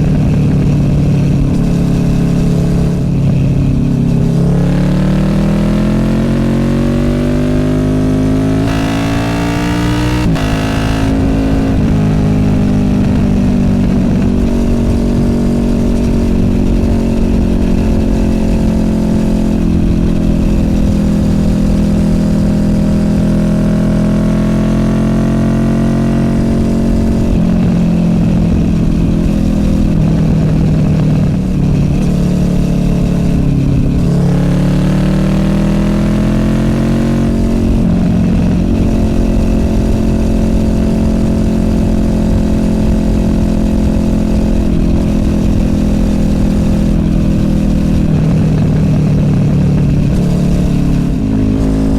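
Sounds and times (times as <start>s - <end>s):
motorcycle engine while riding: 0.0s - 51.9s.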